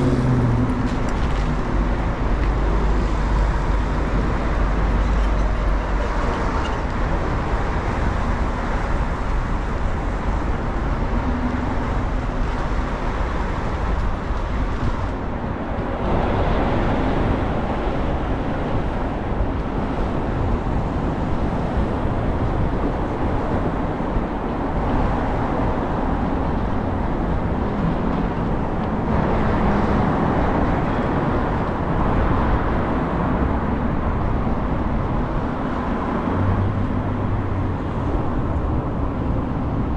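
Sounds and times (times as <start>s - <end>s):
bus engine and road rumble: 0.0s - 39.9s
traffic noise: 0.0s - 39.9s.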